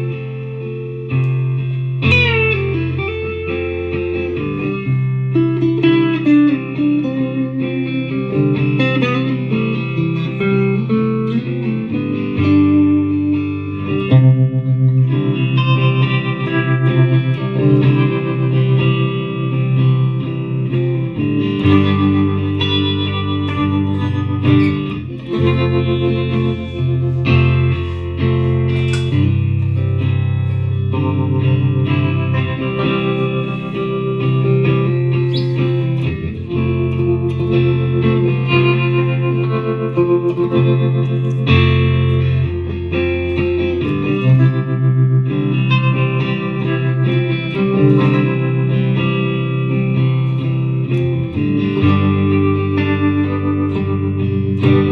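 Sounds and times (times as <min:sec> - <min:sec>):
electric guitar through effects: 0:00.0 - 0:54.9.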